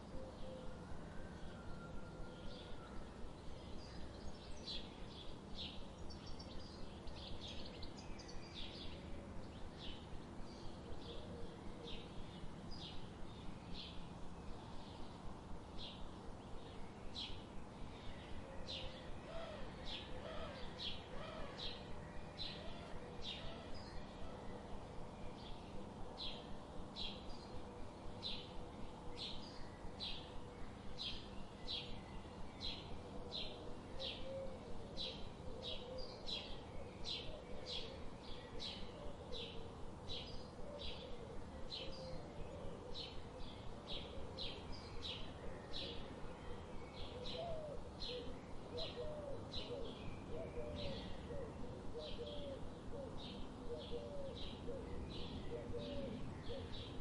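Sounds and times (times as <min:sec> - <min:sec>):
faint lower wavering bird calls: 0:00.0 - 0:57.0.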